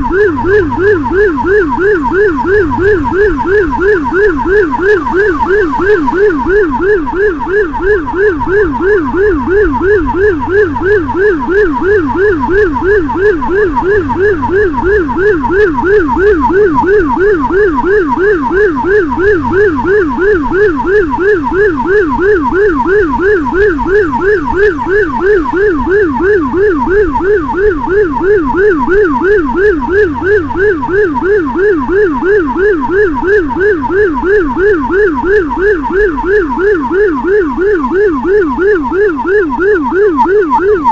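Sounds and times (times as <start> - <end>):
electronic siren yelping: 0.0 - 40.9.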